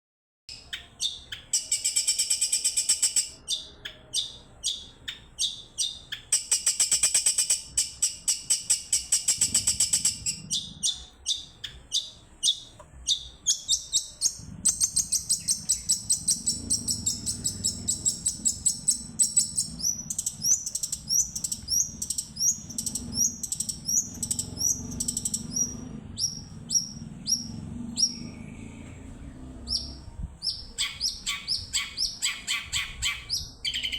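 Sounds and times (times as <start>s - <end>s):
bird singing rapid high notes: 0.5s - 28.7s, 29.6s - 33.9s.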